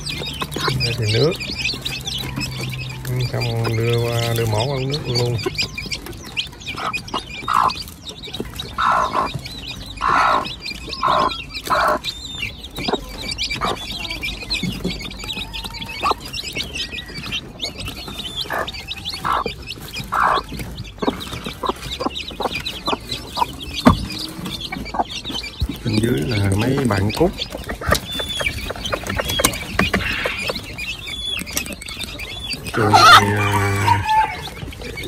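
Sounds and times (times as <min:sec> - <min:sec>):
chicks peeping: 0:00.0 - 0:35.0
hen clucking: 0:00.0 - 0:35.0.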